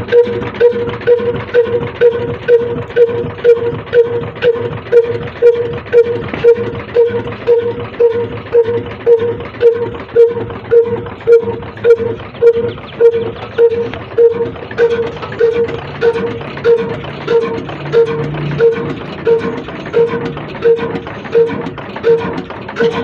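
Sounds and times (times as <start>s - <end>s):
old diesel engine thumping: 0.0s - 23.0s.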